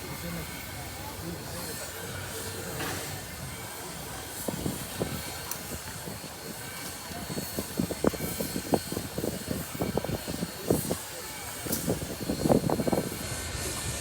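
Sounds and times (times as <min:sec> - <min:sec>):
train rumble and hiss: 0:00.0 - 0:14.0.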